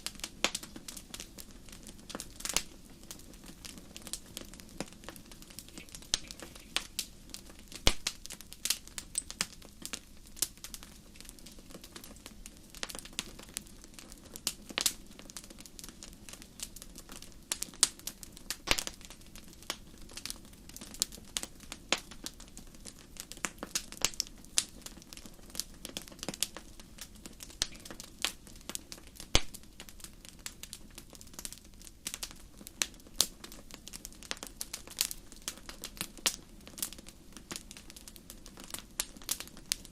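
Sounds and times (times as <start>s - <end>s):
low background noise: 0.0s - 39.9s
wood fire crackling and popping: 0.0s - 39.9s.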